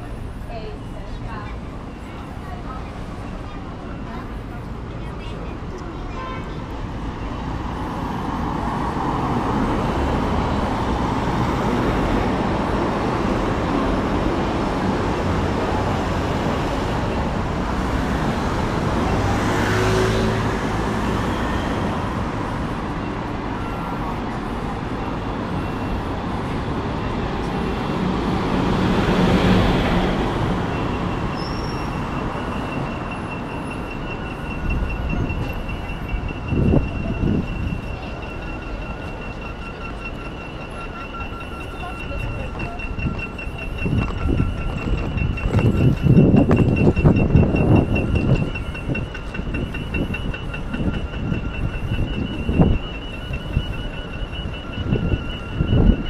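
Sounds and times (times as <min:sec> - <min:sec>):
pedestrian crossing signal ticking: 0:00.0 - 0:56.0
road traffic passing: 0:00.0 - 0:56.0.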